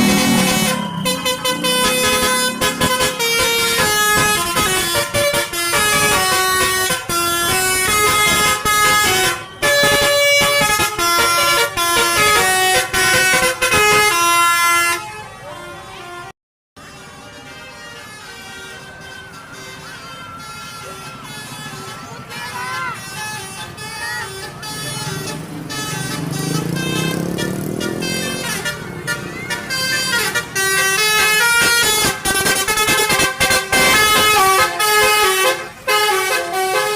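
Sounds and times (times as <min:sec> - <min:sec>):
multi-tone bus horn playing a tune: 0:00.0 - 0:36.9.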